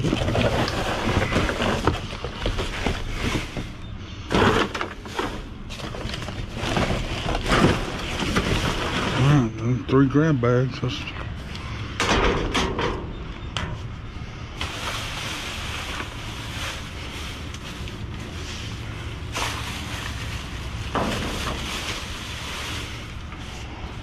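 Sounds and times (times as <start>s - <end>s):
bags and cardboard rustling: 0.0s - 10.2s, 14.6s - 24.0s.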